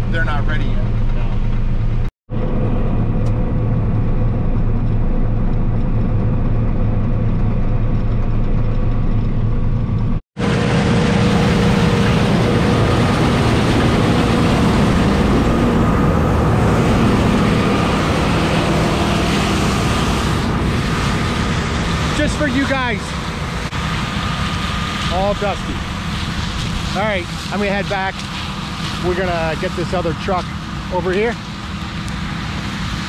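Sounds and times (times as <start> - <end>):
combine harvester engine drone: 0.0 - 33.0.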